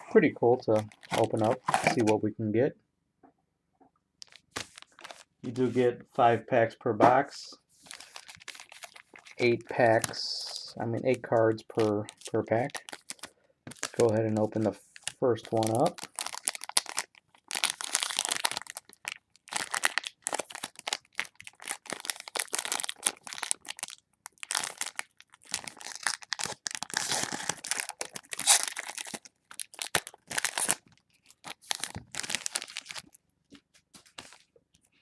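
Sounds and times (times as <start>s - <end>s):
plastic wrapper crinkling and tearing: 0.7s - 2.2s, 4.2s - 5.4s, 7.8s - 34.5s.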